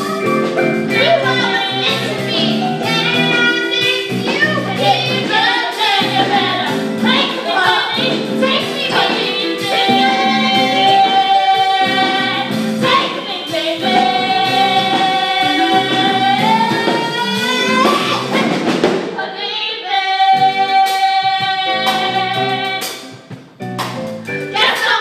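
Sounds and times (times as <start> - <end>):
live band playing: 0.0 - 19.3, 20.0 - 25.0
women singing duet: 0.0 - 23.0, 24.5 - 25.0.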